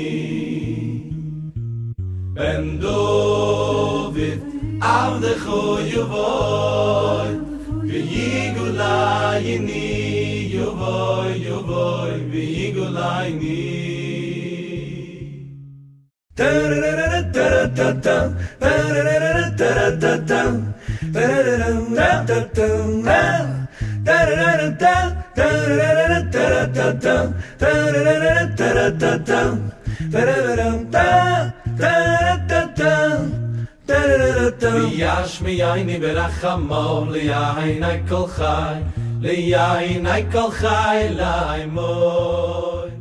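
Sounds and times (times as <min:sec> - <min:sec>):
male choir singing a cappella: 0:00.0 - 0:01.2, 0:02.4 - 0:15.4, 0:16.4 - 0:43.0.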